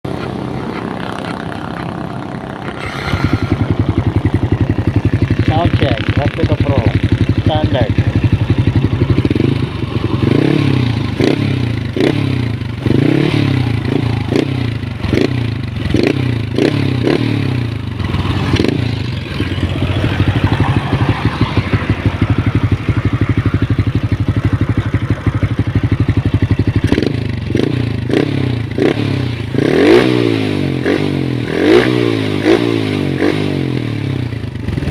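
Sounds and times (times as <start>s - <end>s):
motorcycle engine revving and idling: 0.0s - 34.9s.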